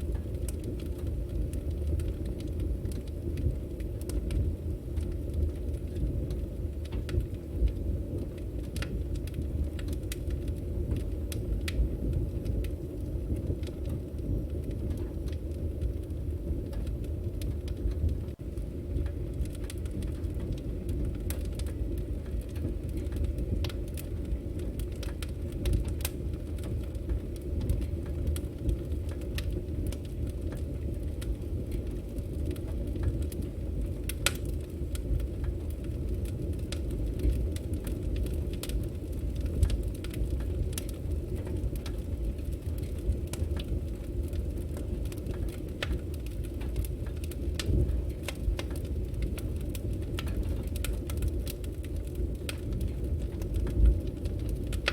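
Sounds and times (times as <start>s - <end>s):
fire rumbling: 0.0s - 54.9s
logs crackling and popping: 0.0s - 54.9s.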